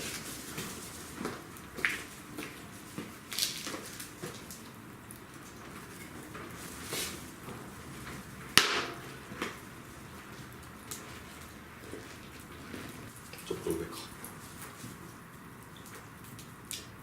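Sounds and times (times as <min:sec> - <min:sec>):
low steady background noise: 0:00.0 - 0:17.0.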